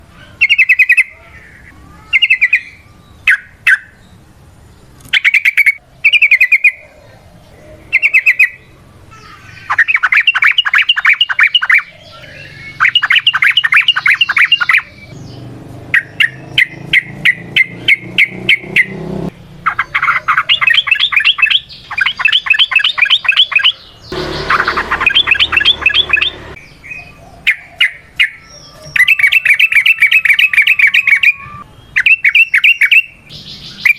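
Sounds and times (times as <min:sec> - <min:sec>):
bird chirping and trilling: 0:00.0 - 0:33.9.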